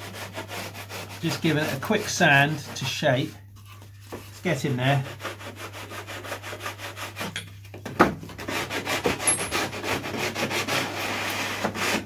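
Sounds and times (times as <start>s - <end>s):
sanding block rubbing wood: 0.0s - 7.3s, 8.4s - 12.0s.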